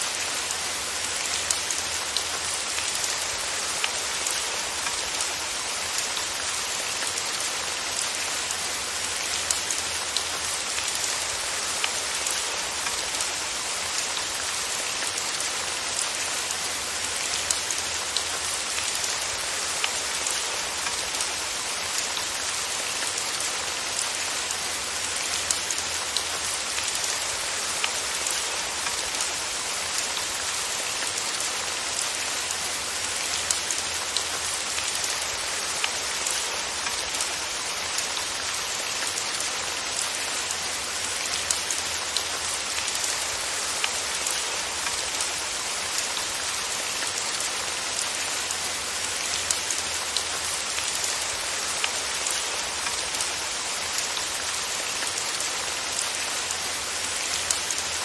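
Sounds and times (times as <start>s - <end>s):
steady rainfall hiss: 0.0s - 58.0s.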